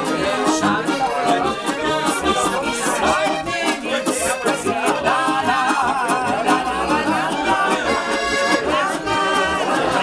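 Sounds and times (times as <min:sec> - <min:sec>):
button accordion folk tune: 0:00.0 - 0:10.0
guitar accompaniment: 0:00.0 - 0:10.0
person singing: 0:00.0 - 0:10.0.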